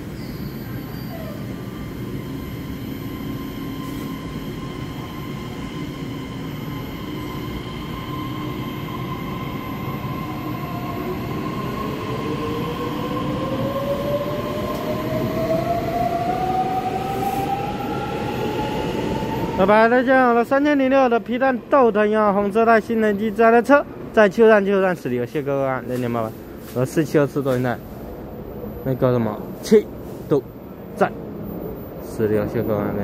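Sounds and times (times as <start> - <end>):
electric train rumble: 0.0 - 33.0
train whine rising in pitch: 0.0 - 33.0.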